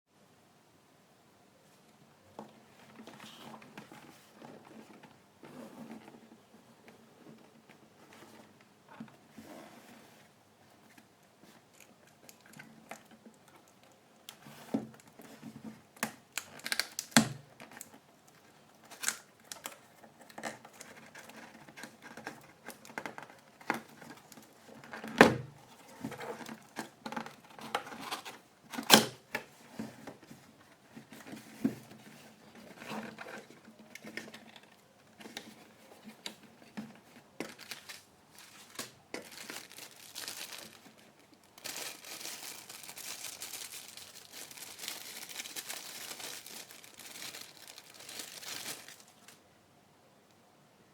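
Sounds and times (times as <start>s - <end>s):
cardboard packaging rustling: 2.6s - 49.4s.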